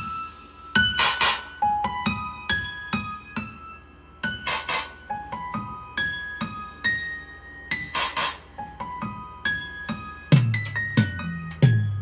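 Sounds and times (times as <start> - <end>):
electric piano melody: 0.0 - 12.0.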